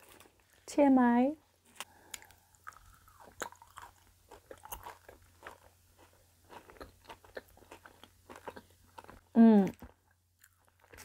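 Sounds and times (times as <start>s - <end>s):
chocolate chewing crunches: 1.7s - 11.0s.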